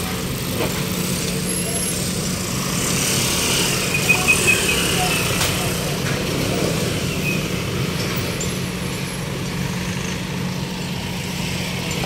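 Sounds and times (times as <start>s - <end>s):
engine humming: 0.0s - 12.0s
street traffic noise: 0.0s - 12.0s.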